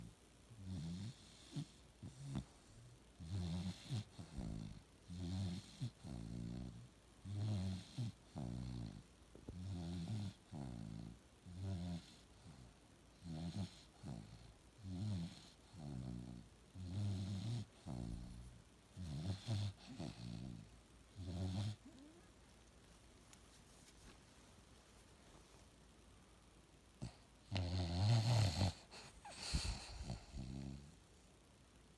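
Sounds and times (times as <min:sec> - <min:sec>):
dog snoring: 0:00.0 - 0:22.2, 0:27.0 - 0:31.0.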